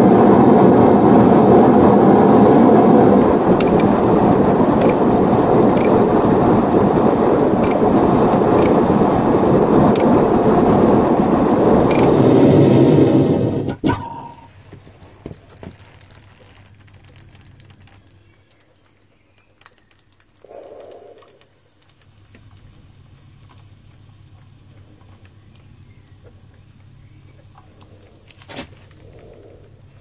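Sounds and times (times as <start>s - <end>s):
low steady hum: 0.0s - 30.0s
molten metal crackling: 0.0s - 30.0s.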